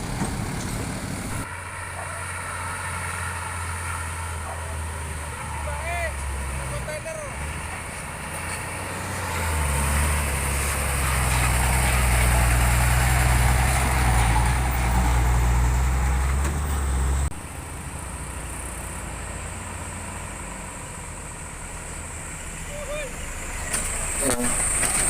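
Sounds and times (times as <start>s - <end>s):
engine hum: 0.0s - 25.0s
truck diesel engine droning: 0.0s - 25.0s.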